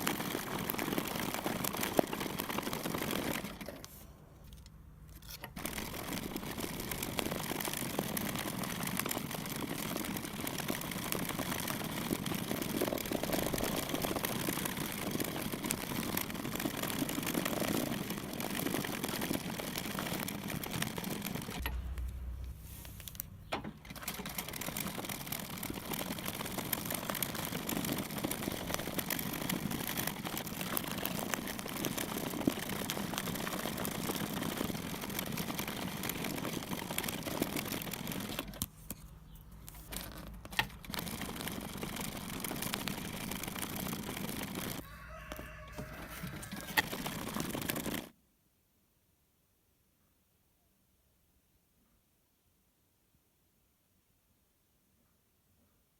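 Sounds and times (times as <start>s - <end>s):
needle piercing taut cloth: 0.0s - 48.1s
thread rustling through fabric: 0.0s - 48.1s.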